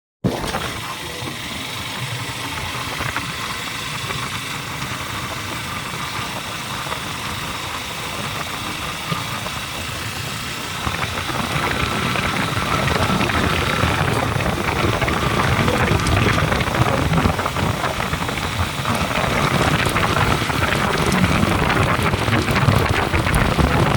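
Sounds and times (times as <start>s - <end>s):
road noise: 0.7s - 23.9s
motorcycle engine running: 0.8s - 23.9s
wind noise: 1.8s - 23.9s.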